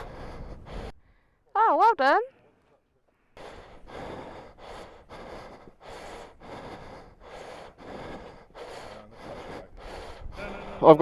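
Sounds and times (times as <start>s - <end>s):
person breathing hard: 0.0s - 1.4s, 3.1s - 11.0s.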